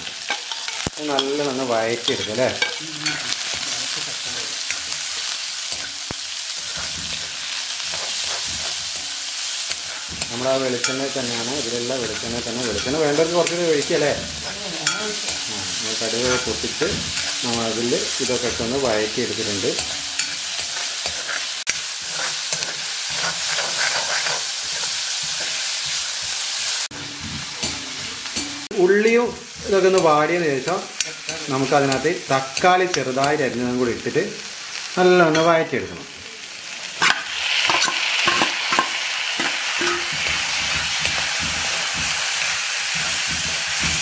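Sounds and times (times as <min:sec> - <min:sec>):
metal spoon scraping wok: 0:00.0 - 0:33.7, 0:37.0 - 0:44.0
shallots sizzling in hot oil: 0:00.0 - 0:44.0.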